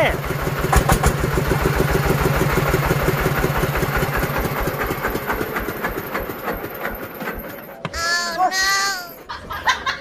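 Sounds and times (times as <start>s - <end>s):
diesel engine chugging: 0.0s - 9.4s.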